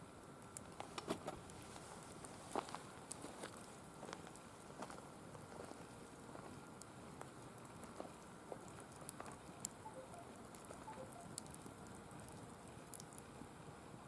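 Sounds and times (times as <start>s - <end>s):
firewood crackling: 0.0s - 13.5s
low hiss: 0.0s - 14.0s.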